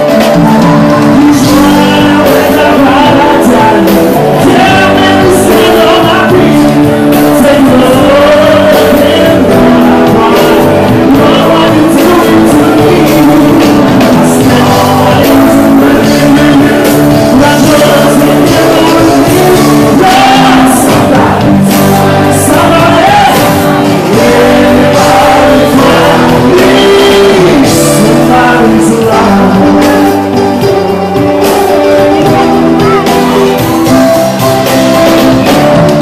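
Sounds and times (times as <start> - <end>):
drums: 0.0 - 36.0
electric guitar: 0.0 - 36.0
man singing: 0.0 - 36.0.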